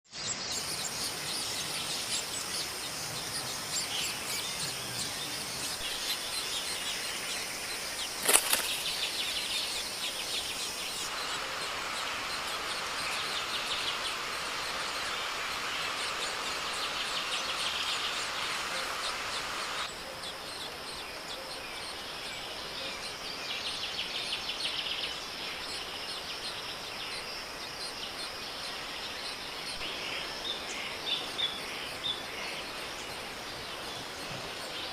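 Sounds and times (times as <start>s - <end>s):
birds chirping: 0.1s - 34.9s
high insect drone: 0.2s - 34.9s.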